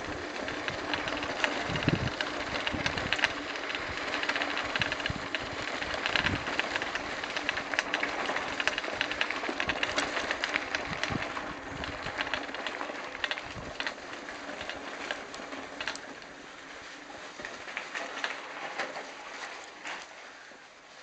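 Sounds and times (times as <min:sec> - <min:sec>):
bike rattling: 0:00.0 - 0:20.6
bike tyres crunching on gravel: 0:00.0 - 0:21.0.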